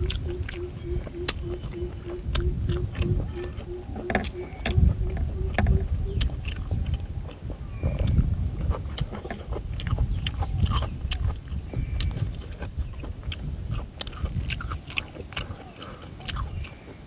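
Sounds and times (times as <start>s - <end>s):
person chewing food: 0.0s - 17.0s
wind rumble on microphone: 0.0s - 17.0s.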